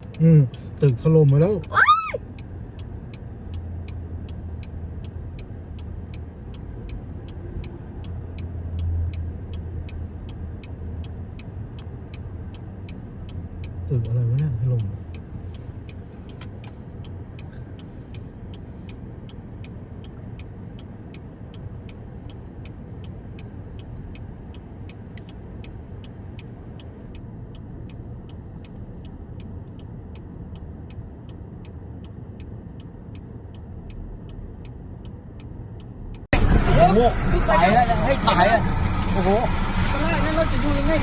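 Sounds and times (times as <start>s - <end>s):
car indicator ticking: 0.0s - 36.3s
low vehicle rumble: 0.0s - 41.0s.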